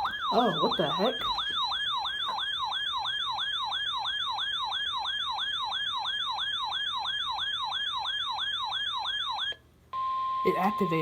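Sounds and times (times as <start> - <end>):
electronic alarm siren wail: 0.0 - 11.0.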